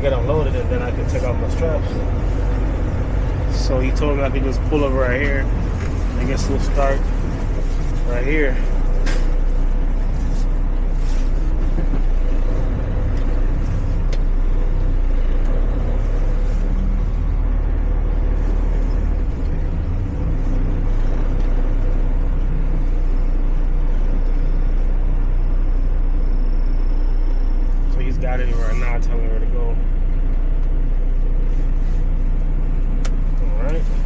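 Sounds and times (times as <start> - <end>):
truck diesel engine rumbling: 0.0 - 34.0.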